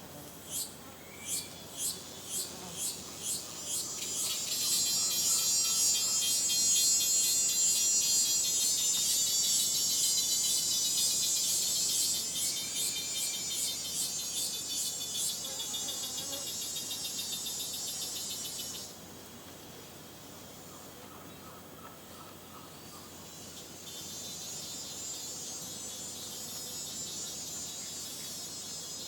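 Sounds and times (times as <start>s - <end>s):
insect chorus buzzing: 0.0s - 29.0s.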